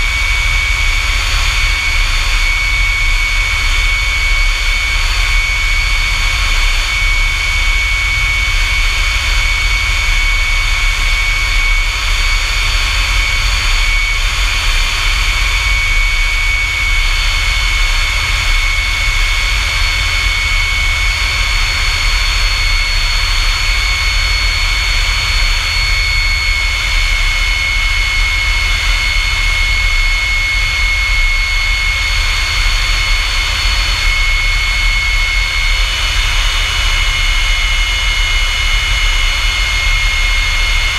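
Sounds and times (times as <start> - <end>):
jet engine running: 0.0 - 40.9.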